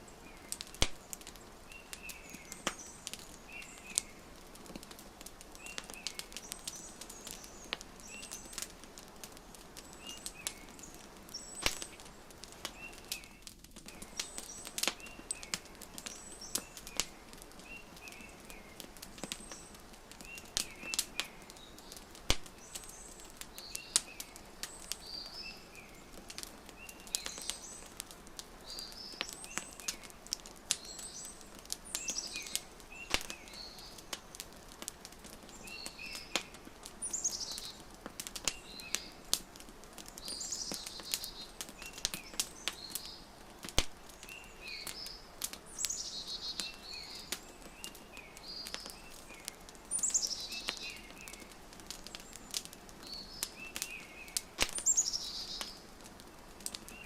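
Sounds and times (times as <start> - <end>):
small birds chirping: 0.0 - 57.0
wood fire crackling: 0.0 - 57.0.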